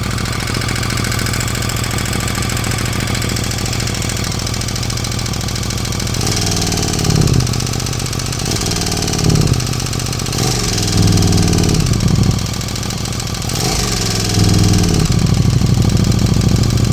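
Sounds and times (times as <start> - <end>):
engine revving: 0.0 - 16.9
motorcycle engine idling with rattle: 0.0 - 16.9.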